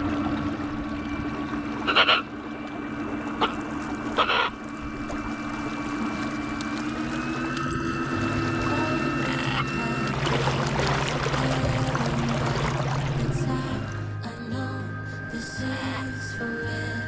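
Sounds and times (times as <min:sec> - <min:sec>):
electric outboard motor whine: 0:00.0 - 0:17.0
water: 0:00.0 - 0:17.0.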